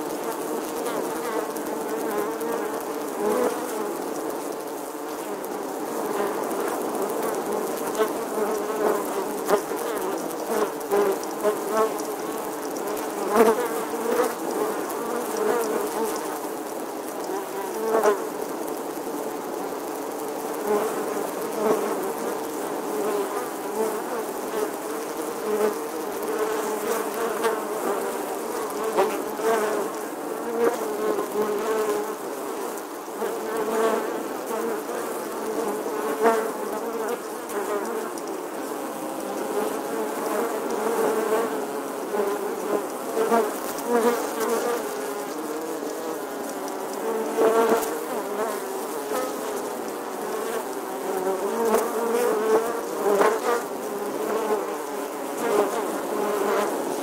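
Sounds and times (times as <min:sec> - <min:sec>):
bee buzzing: 0:00.0 - 0:18.5, 0:20.3 - 0:57.0.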